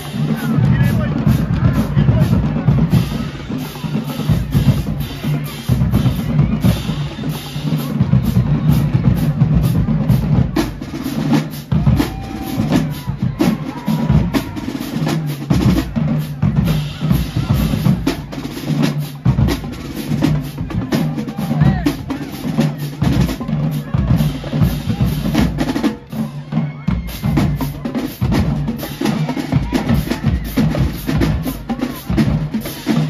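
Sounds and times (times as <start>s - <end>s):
marching drumline cadence: 0.0s - 33.0s.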